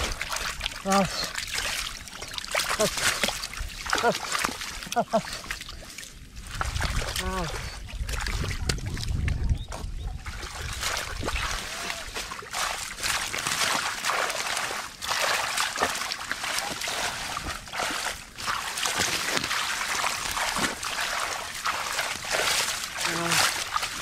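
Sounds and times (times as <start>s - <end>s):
hands splashing muddy water: 0.0s - 24.0s.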